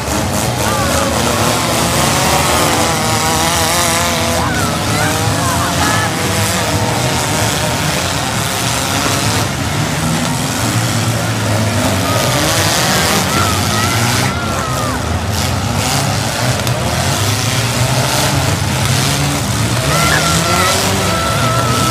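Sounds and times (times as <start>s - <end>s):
car engines revving hard: 0.0s - 21.9s
loud crowd murmur: 0.0s - 21.9s.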